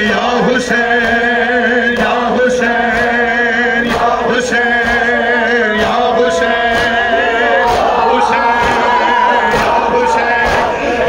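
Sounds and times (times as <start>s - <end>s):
crowd singing along: 0.0s - 11.0s
men chanting a lament: 0.0s - 11.0s.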